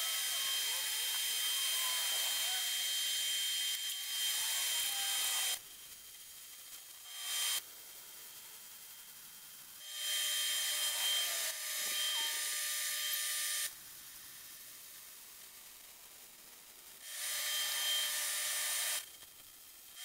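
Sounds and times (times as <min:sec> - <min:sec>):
welder arc crackling and hissing: 0:00.0 - 0:20.0.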